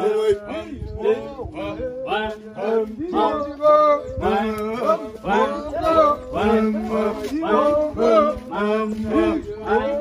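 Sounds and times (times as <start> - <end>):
man singing: 0.0 - 10.0.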